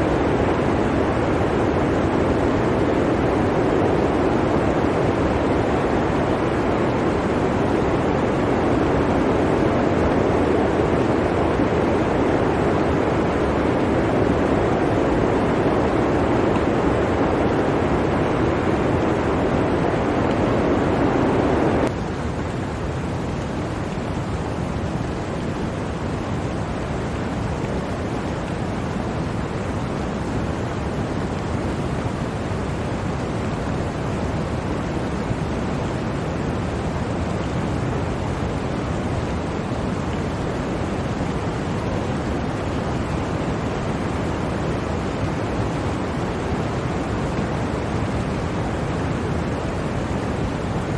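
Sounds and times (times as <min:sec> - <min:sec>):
blizzard wind rushing: 0:00.0 - 0:50.9.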